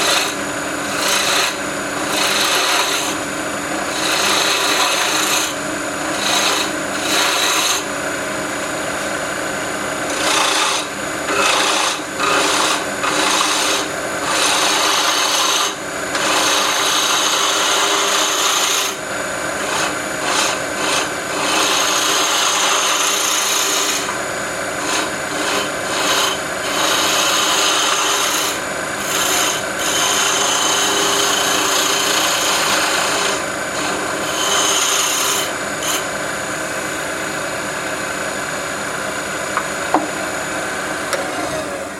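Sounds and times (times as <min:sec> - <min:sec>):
turning tool scraping wood: 0:00.0 - 0:09.2, 0:09.9 - 0:19.0, 0:19.6 - 0:36.2
lathe humming: 0:00.0 - 0:41.9.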